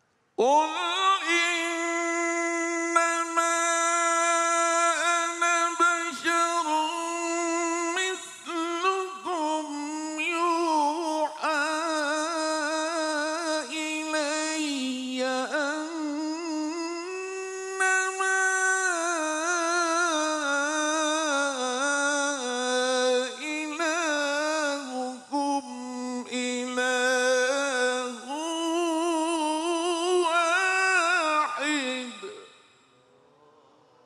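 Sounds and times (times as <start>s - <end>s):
man chanting melodically: 0.4s - 32.7s.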